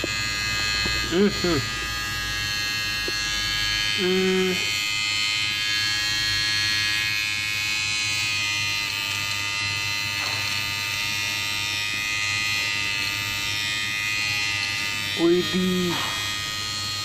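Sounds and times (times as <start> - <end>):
trimmer motor buzzing: 0.0 - 17.0.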